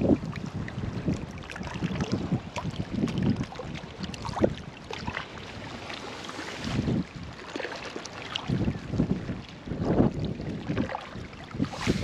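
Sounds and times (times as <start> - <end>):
wind buffeting microphone: 0.0 - 5.9, 6.6 - 7.4, 8.3 - 12.0
seawater lapping on rocks: 0.0 - 12.0.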